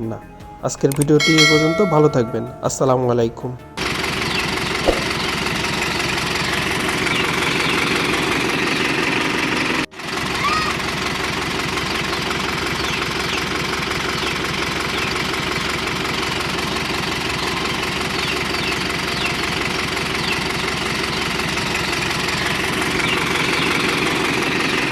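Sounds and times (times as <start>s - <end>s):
tractor diesel engine running: 3.7s - 24.9s.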